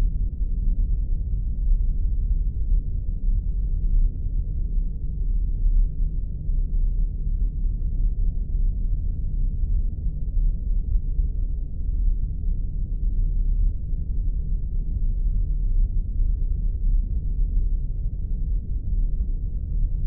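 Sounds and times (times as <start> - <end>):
deep rumble: 0.0 - 20.0.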